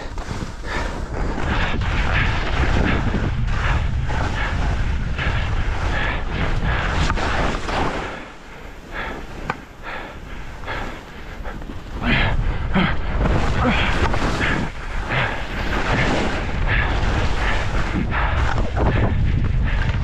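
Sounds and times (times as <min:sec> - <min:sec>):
skis scraping across snow: 0:00.0 - 0:12.3, 0:13.2 - 0:20.0
wind rumble on microphone: 0:00.0 - 0:20.0.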